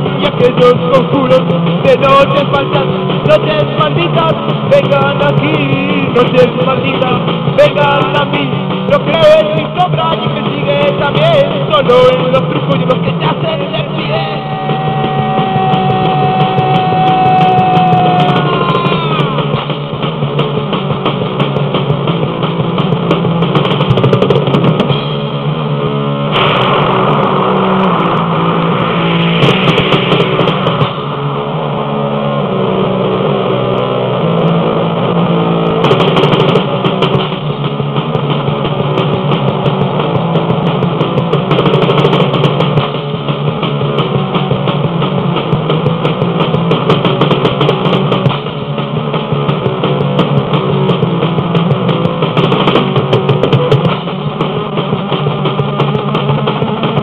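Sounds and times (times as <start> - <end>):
instrumental heavy rock music: 0.0 - 57.0.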